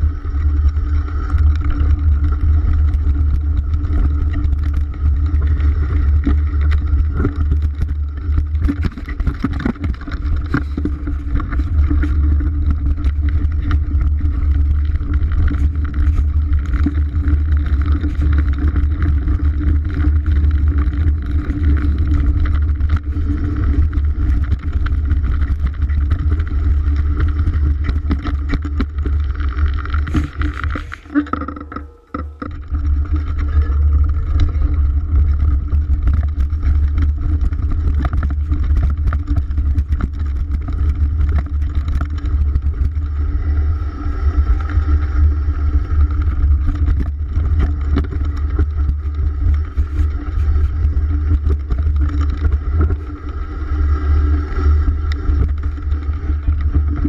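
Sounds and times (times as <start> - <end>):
bike rattling over rough ground: 0.0 - 57.0.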